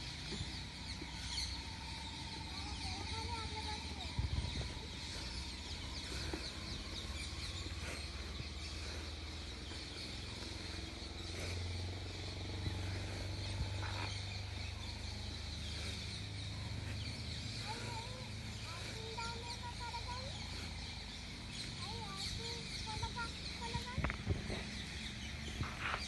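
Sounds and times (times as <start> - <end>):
low rumble: 0.0 - 26.0
small birds chirping: 0.0 - 26.0.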